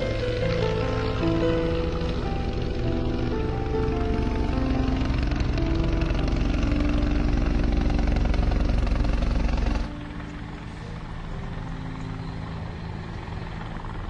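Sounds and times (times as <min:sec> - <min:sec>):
background music: 0:00.0 - 0:14.0
helicopter rotor and engine: 0:00.0 - 0:14.0.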